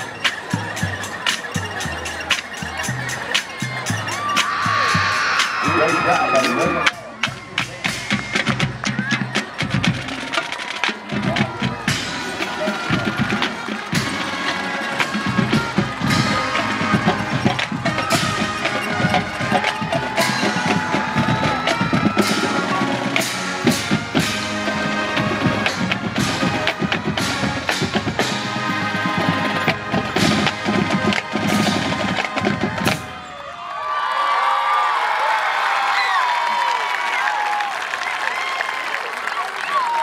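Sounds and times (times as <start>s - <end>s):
marching band playing: 0.0s - 33.2s
drumline: 0.0s - 33.6s
crowd cheering and applause: 0.0s - 40.0s.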